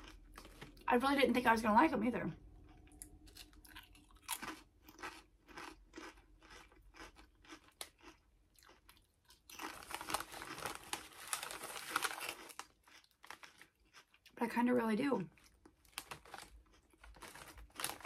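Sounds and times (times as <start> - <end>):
crunching potato chips: 2.6 - 14.4, 15.3 - 18.0.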